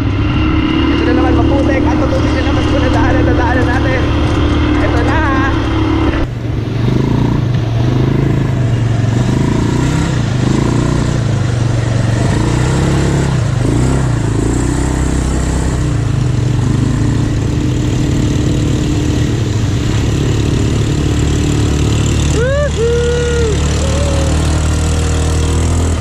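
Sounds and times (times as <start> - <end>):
quad engine running: 0.0 - 26.0
steady rushing noise: 0.0 - 26.0.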